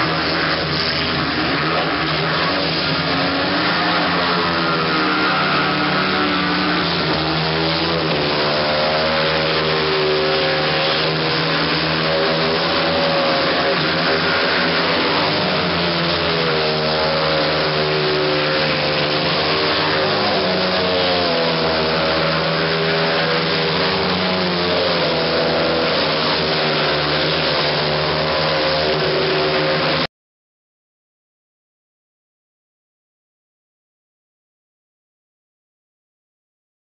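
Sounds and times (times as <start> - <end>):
motorcycle engines racing: 0.0 - 30.1.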